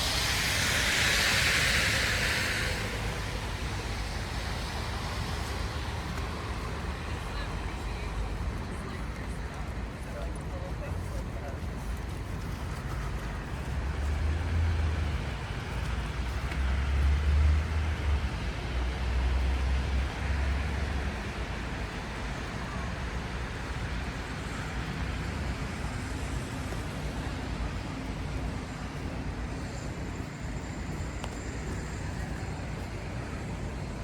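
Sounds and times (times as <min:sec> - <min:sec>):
deep vehicle rumble: 0:00.0 - 0:33.9
tyres hissing on road: 0:00.0 - 0:34.0.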